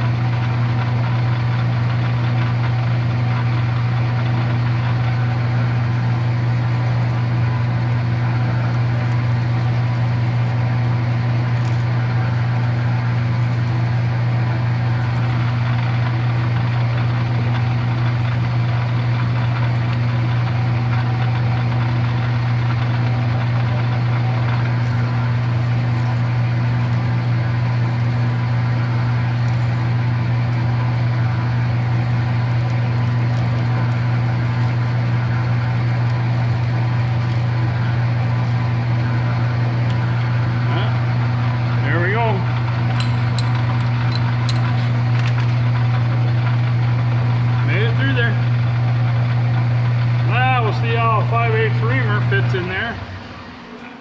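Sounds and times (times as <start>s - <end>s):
drill press drilling metal: 0.1s - 46.8s.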